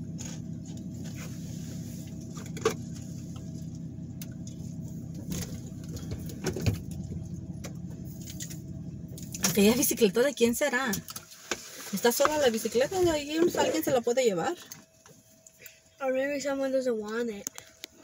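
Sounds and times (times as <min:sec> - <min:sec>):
car idling hum: 0:00.0 - 0:18.0.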